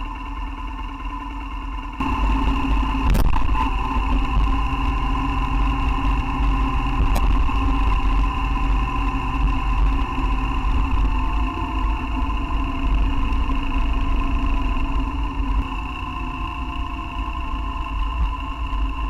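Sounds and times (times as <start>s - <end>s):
motorcycle engine running: 0.0s - 19.0s
wind rumble on microphone: 2.0s - 19.0s.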